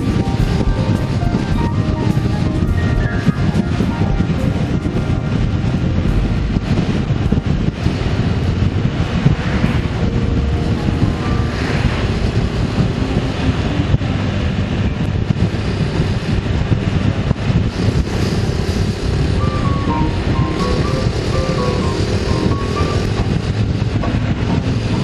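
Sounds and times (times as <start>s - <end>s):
moving vehicle rumble: 0.0s - 25.0s
wind buffeting microphone: 0.0s - 25.0s.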